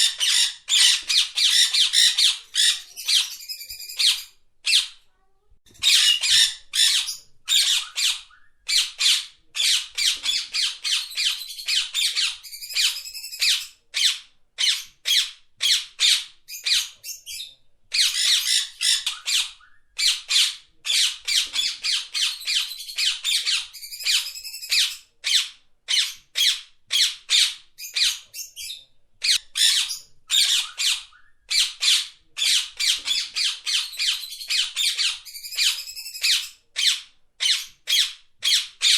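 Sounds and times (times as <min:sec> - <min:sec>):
parrot squawking: 0:00.0 - 0:05.0, 0:05.8 - 0:38.9.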